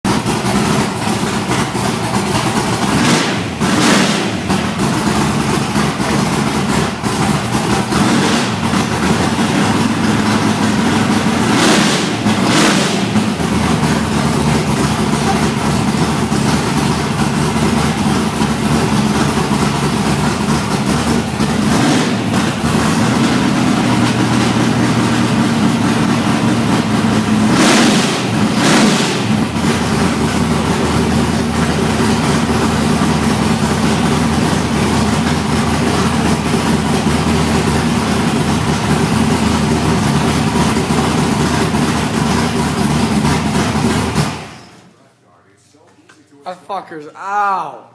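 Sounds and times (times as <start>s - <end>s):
car engine at lumpy idle: 0.0s - 45.0s.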